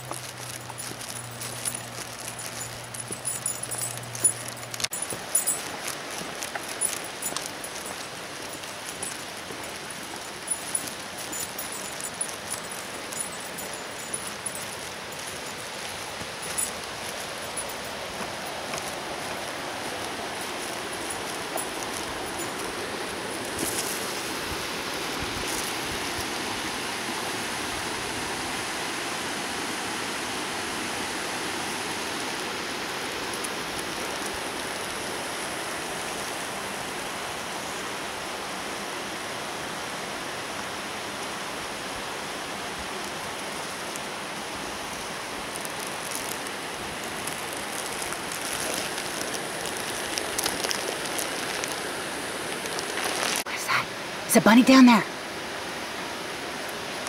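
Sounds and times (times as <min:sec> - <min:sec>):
creek running over stones: 0:00.0 - 0:57.0.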